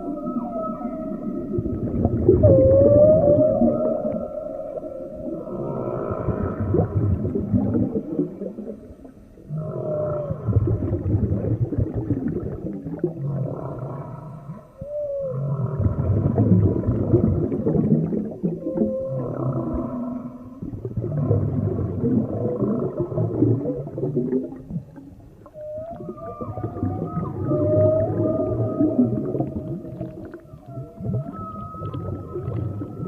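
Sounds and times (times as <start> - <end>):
steady underwater crackle: 0.0 - 33.0
whale moaning calls: 0.0 - 33.0.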